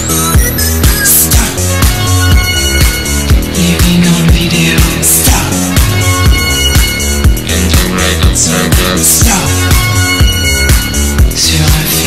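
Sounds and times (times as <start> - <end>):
bass line: 0.0 - 12.0
loud music with steady beat: 0.0 - 12.0.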